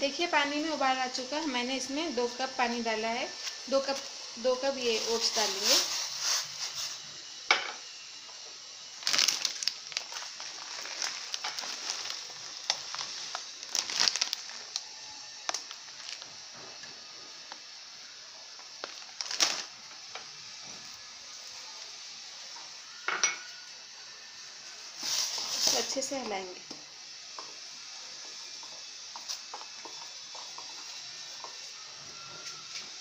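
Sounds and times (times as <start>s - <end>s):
water boiling in a pan: 0.0s - 33.0s.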